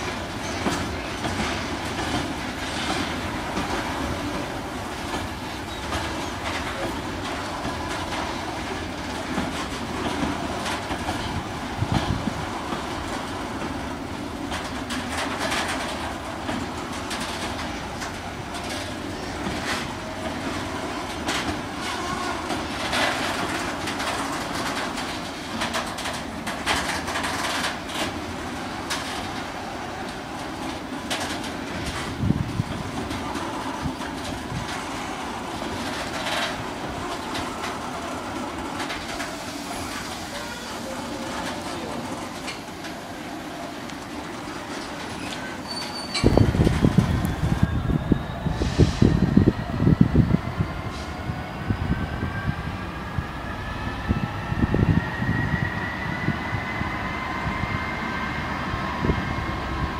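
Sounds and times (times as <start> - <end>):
wheels clattering over rail joints: 0.0 - 48.3
freight train rolling past: 0.0 - 59.9.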